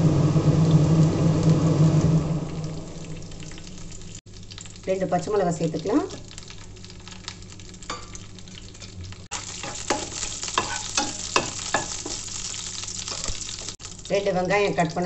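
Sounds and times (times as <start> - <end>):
chillies sizzling in hot oil: 2.3 - 15.0.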